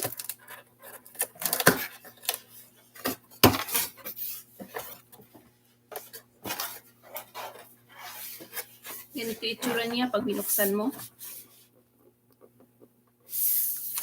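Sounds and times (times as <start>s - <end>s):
packaging rustling and scraping: 0.0s - 11.8s.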